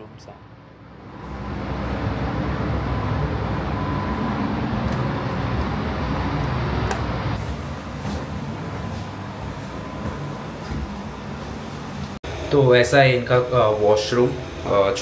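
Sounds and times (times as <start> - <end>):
ventilation rumble: 0.0 - 15.0.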